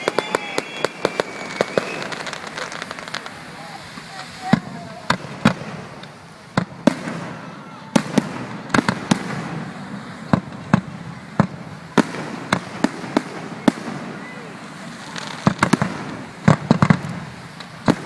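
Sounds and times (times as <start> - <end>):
fireworks bursting in sharp bangs: 0.0 - 18.0.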